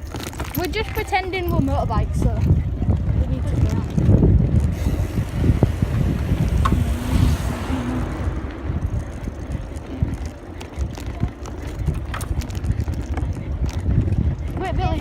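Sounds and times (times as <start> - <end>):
bicycle ride rumble and rattles: 0.0 - 15.0
wind buffeting microphone: 0.0 - 15.0.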